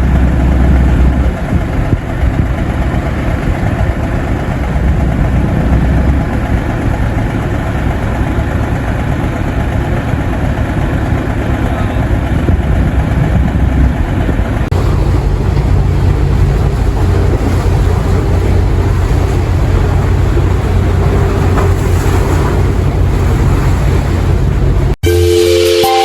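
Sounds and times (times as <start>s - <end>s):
boat engine rumbling: 0.0s - 25.0s
water noise: 0.0s - 25.0s
wind: 0.0s - 25.0s.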